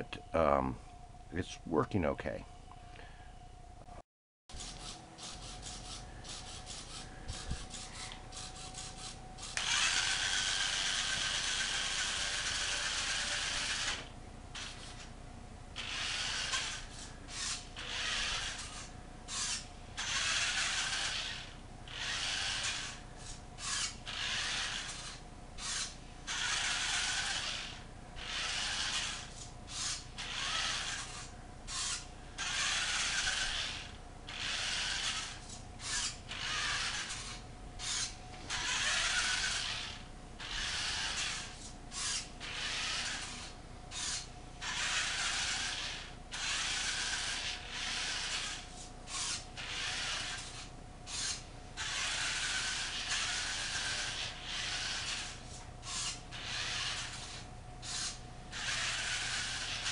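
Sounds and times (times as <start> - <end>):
toy truck electric motors whirring: 4.5 - 15.1, 15.8 - 59.9.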